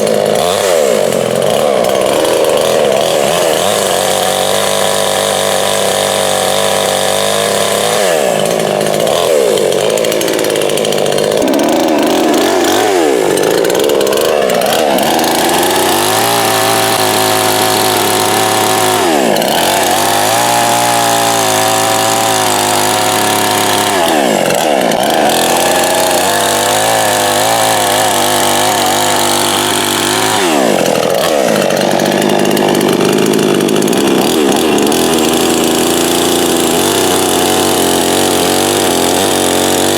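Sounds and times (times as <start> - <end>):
chainsaw running hard: 0.0 - 39.9.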